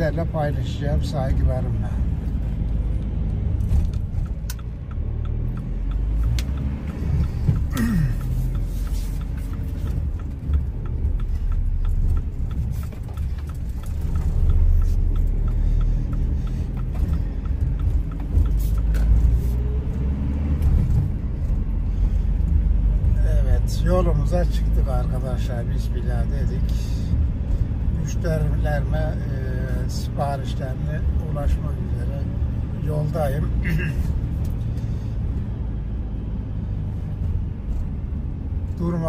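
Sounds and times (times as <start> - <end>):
van engine and road rumble: 0.0 - 39.0
faint regular ticking: 4.0 - 20.4, 21.0 - 36.8.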